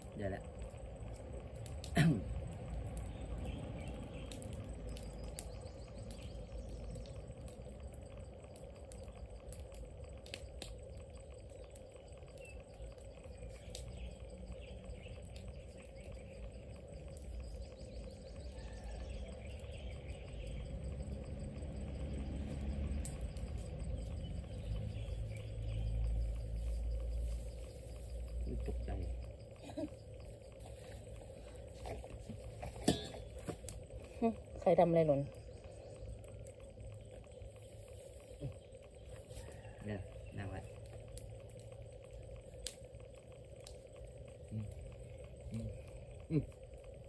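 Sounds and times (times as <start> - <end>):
faint insect chirping: 0.0 - 47.0
low rumble: 0.0 - 47.0.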